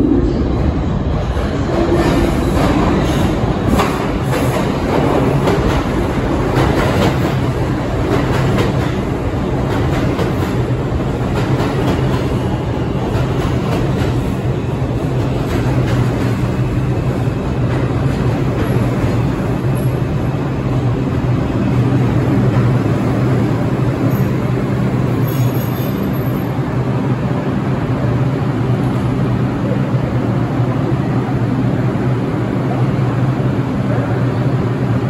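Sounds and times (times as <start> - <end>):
subway train running into station: 0.0 - 35.0.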